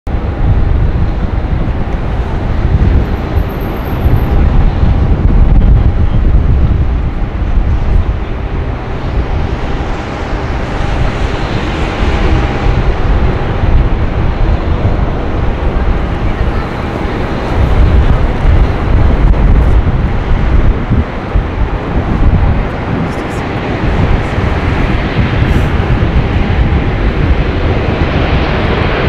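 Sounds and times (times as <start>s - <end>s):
jet engines roaring: 0.1s - 29.0s
wind rumble on microphone: 0.1s - 29.0s.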